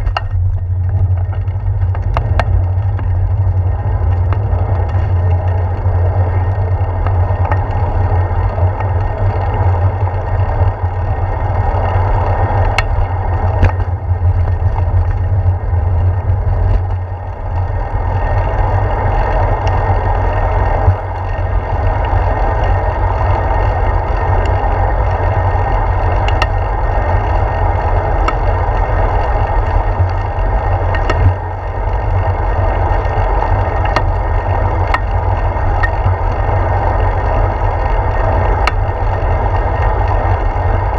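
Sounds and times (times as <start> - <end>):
bicycle clicks and rattles: 0.0 - 40.9
tyre road noise: 0.0 - 40.9
wind rumbling over microphone: 0.0 - 40.9.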